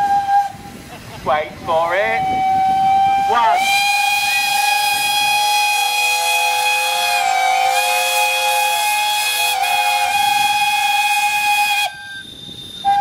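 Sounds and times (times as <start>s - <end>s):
steam whistle blast: 0.0s - 0.6s, 2.1s - 13.0s
steam hiss: 0.0s - 13.0s.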